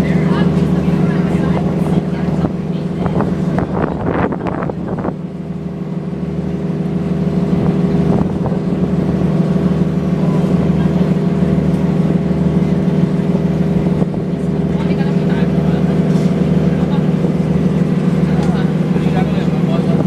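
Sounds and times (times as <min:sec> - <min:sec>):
ship engine humming: 0:00.0 - 0:20.0.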